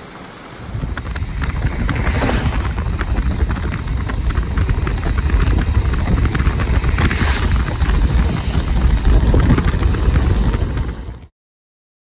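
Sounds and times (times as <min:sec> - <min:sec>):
wind buffeting microphone: 0:00.4 - 0:11.3.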